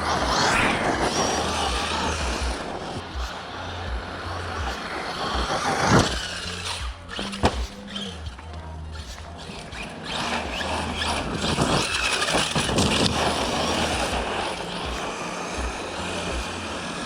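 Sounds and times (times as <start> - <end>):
rc truck motor whine: 0.0 - 17.0
rush of noise passing: 0.0 - 17.0.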